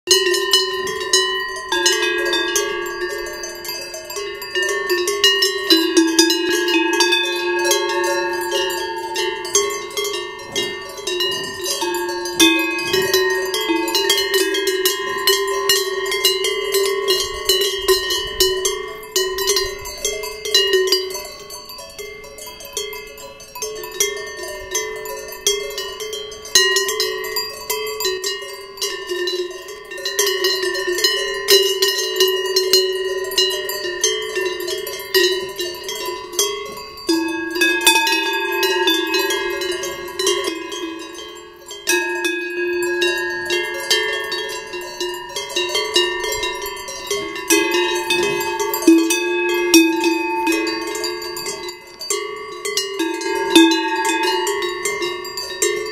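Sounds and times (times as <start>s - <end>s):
cowbells clanging: 0.1s - 55.9s.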